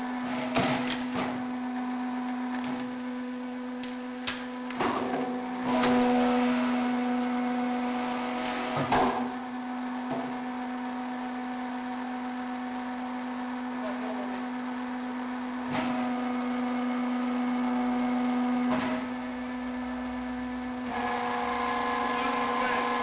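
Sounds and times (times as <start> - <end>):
hydraulic power unit humming: 0.0 - 23.0.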